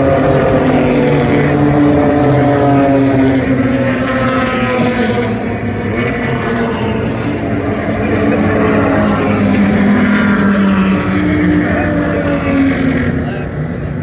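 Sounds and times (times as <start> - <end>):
engine accelerating: 0.0 - 14.0
race car engines running: 0.0 - 14.0.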